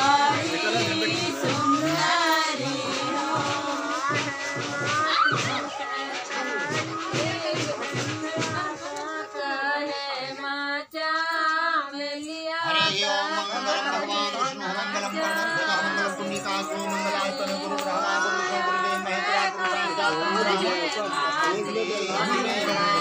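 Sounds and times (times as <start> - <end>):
women singing: 0.0 - 23.0.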